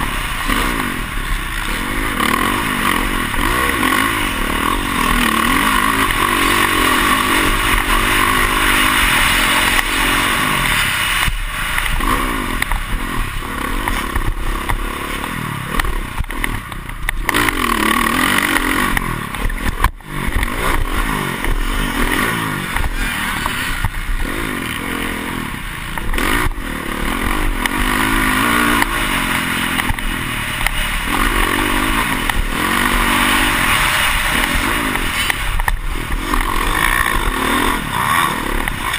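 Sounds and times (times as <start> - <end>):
dirt bike engine revving: 0.0 - 38.9
rushing noise and clatter: 0.0 - 38.9.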